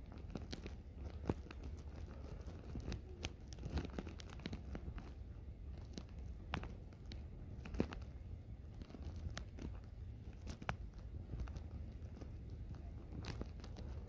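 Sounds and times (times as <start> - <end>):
grit and stones scratching: 0.0 - 14.0
steady low rumble: 0.0 - 14.0.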